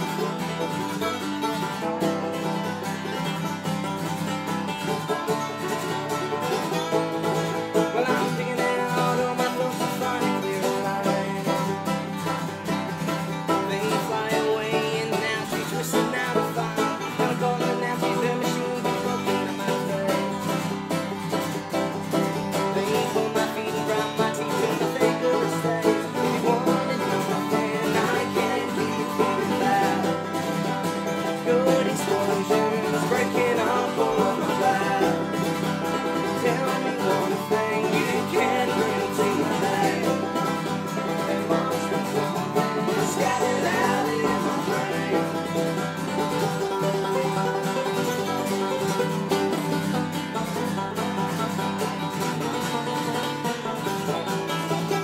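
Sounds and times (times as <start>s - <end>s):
banjo picking: 0.0s - 55.0s
slide guitar: 0.0s - 55.0s
strummed acoustic guitar: 0.0s - 55.0s.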